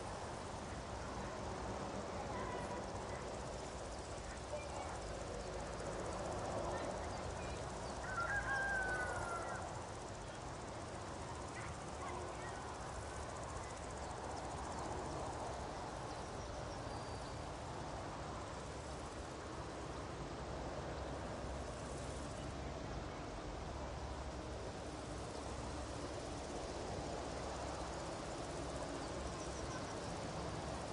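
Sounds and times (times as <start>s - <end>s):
soft outdoor hiss: 0.0s - 30.9s.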